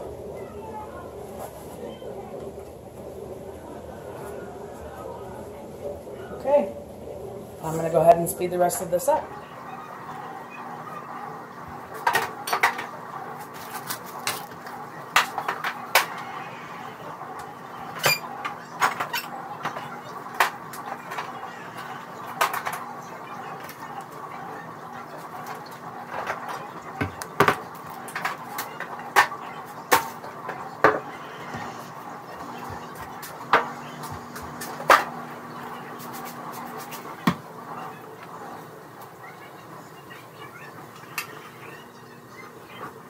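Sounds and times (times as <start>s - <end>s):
steady low hum: 0.0s - 42.3s.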